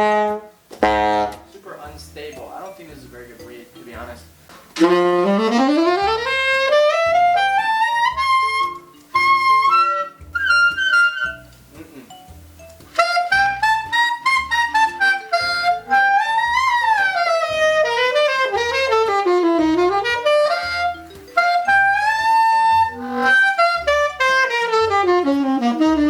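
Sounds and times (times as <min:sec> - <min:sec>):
saxophone playing fast jazz: 0:00.0 - 0:01.5, 0:04.8 - 0:11.5, 0:13.0 - 0:26.0.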